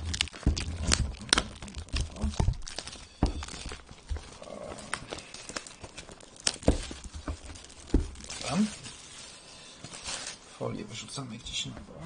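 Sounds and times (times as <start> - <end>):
plastic film crinkling: 0.0 - 11.6.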